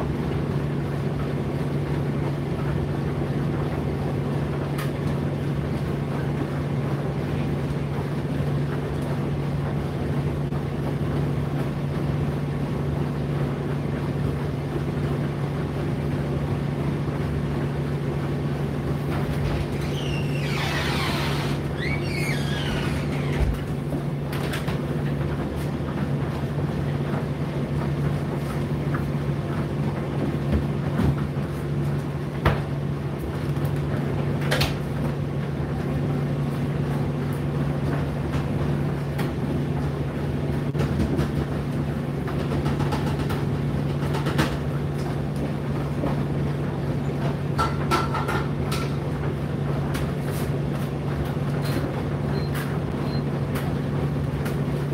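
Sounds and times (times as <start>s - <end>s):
tumble dryer running: 0.0s - 54.9s.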